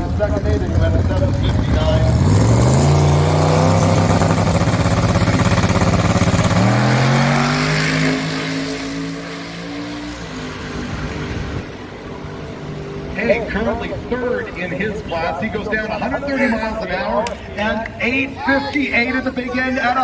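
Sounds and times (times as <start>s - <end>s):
drag race car accelerating: 0.0s - 17.1s.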